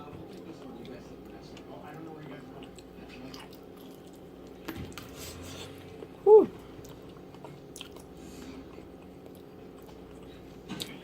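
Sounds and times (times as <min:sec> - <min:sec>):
person chewing wetly: 0:00.1 - 0:11.0.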